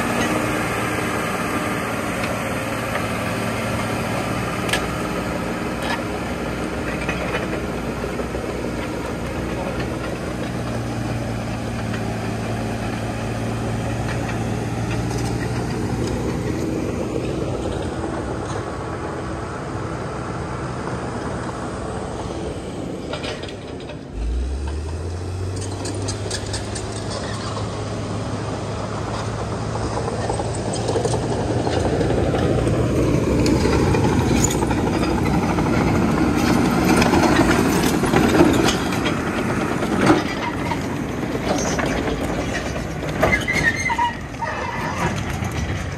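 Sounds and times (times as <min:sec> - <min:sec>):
steel tracks clanking and squealing: 0:00.0 - 0:01.0, 0:04.0 - 0:19.3, 0:23.0 - 0:45.9
bulldozer diesel engine running: 0:00.0 - 0:45.9.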